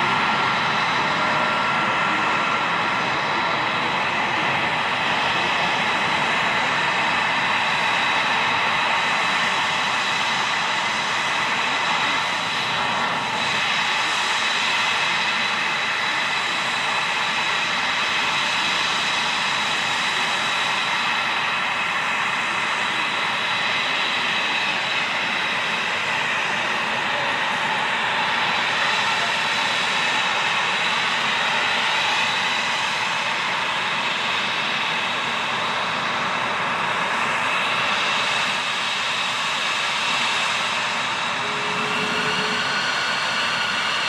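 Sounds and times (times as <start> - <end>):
jet engines idling: 0.0 - 44.0.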